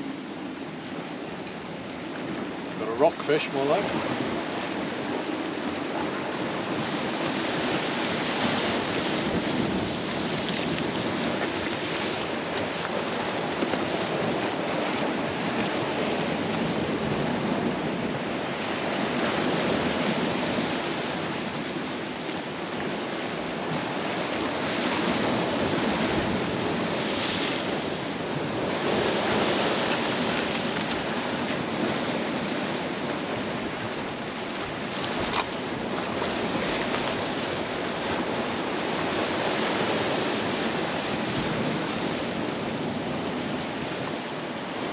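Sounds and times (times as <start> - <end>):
surf washing against shore: 0.0 - 44.9
wind on microphone: 0.0 - 44.9.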